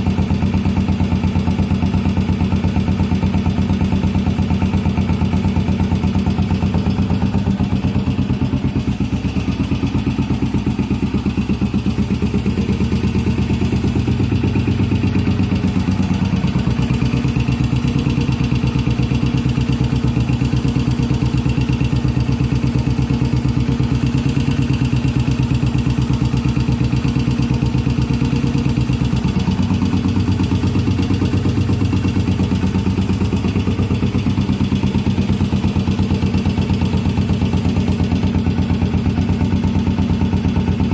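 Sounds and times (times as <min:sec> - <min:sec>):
motorcycle engine idling roughly: 0:00.0 - 0:40.9.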